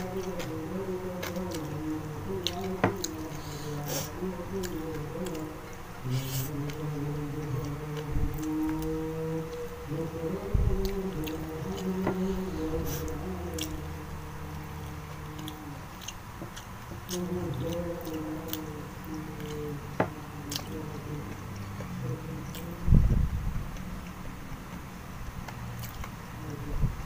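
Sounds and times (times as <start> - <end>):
person chewing food: 0.0 - 10.1, 10.8 - 22.8, 23.7 - 26.4.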